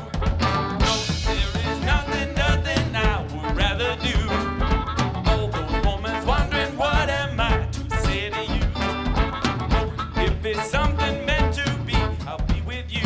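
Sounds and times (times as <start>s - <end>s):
funk band playing live: 0.0s - 13.0s.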